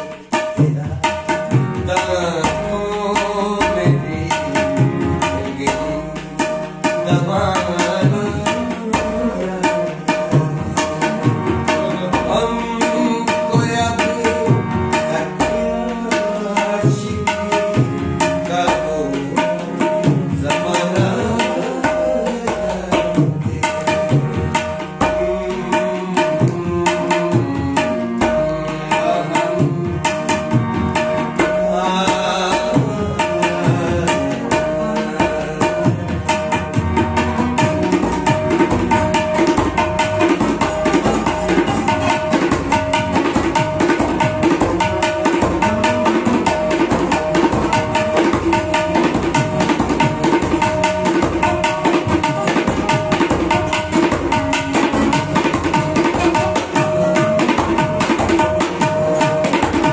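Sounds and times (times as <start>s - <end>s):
harmonium: 0.0s - 59.9s
plucked string instrument: 0.0s - 59.9s
tabla playing fast rhythm: 0.0s - 59.9s.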